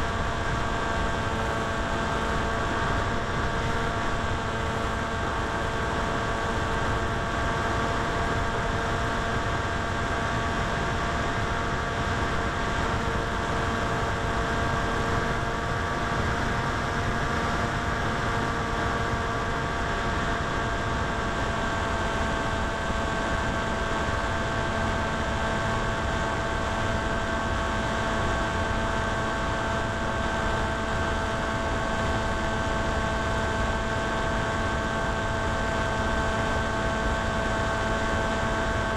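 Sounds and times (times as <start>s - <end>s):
steady multi-tone hum: 0.0s - 38.9s.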